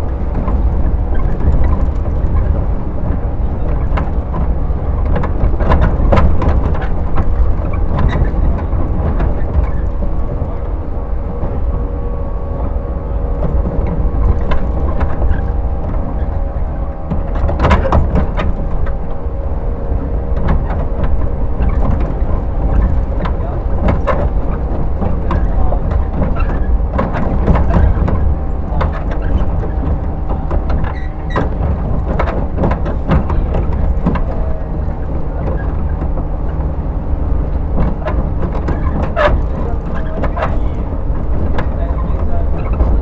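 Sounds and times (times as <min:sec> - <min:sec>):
train wheels rumbling on rail: 0:00.0 - 0:43.0
clicks and knocks: 0:00.2 - 0:36.7.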